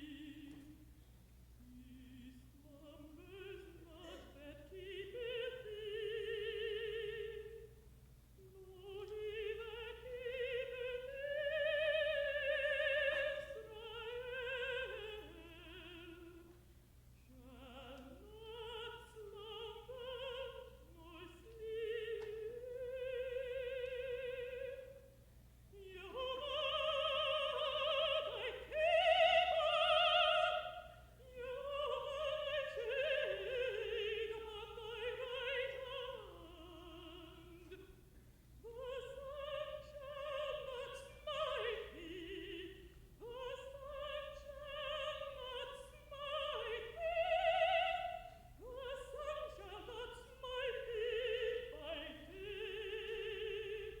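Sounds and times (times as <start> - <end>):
contralto singing with vibrato: 0.0 - 0.9, 1.6 - 7.7, 8.4 - 16.6, 17.2 - 25.1, 25.7 - 38.0, 38.6 - 54.0
faint low hum: 0.0 - 54.0.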